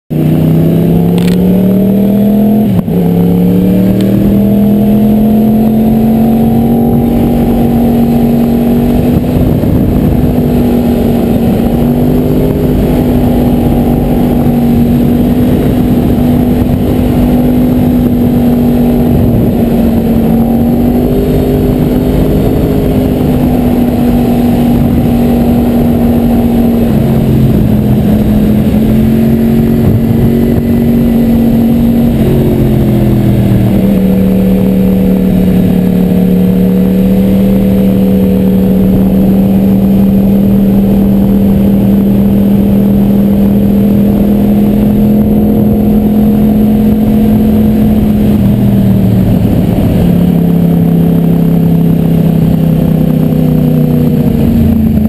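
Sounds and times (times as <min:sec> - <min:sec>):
motorcycle engine revving: 0:00.1 - 0:55.0.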